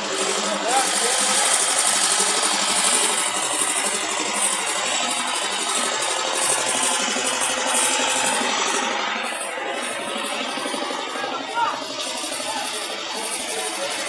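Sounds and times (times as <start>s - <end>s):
crowded street procession noise: 0.0s - 14.0s
engine-like running sound: 0.0s - 14.0s.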